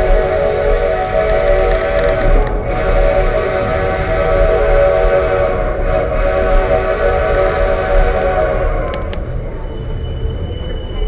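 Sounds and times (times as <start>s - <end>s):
steam locomotive whistle: 0.0s - 11.0s
train rumbling: 0.0s - 11.0s.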